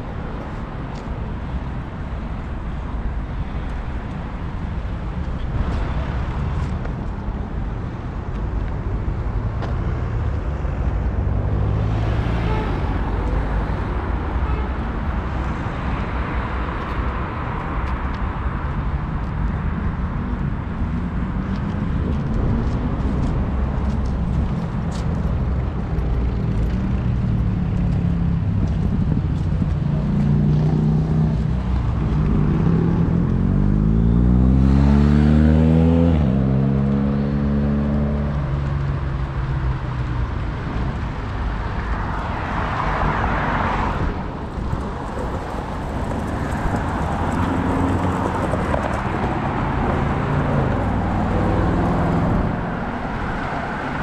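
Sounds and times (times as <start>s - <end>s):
cars driving past: 0.0s - 54.0s.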